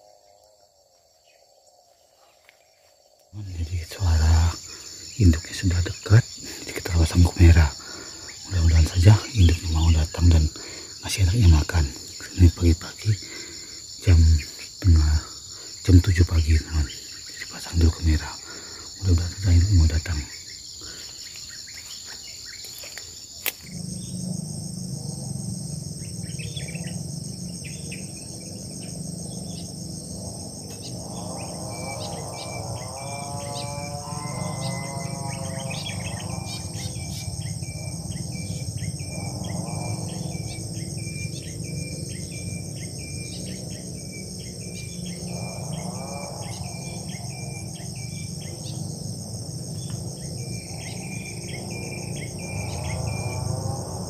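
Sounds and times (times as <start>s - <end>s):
crickets and insects chirping: 0.0s - 54.0s
faint drawn-out calls: 2.0s - 54.0s.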